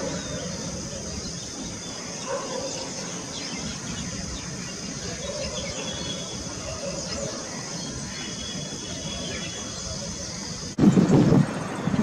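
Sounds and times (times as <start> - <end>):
high-pitched background hiss: 0.0 - 12.0.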